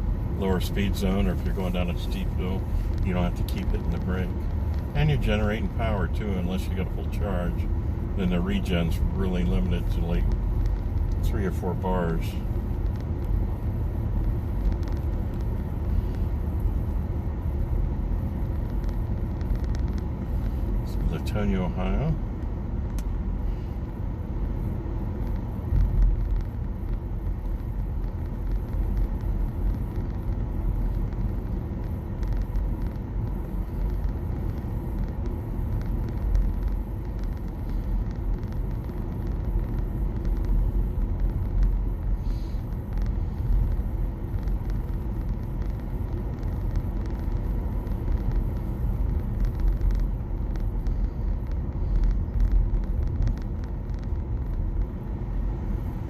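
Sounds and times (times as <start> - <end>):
road and tyre rumble in car: 0.0 - 56.0.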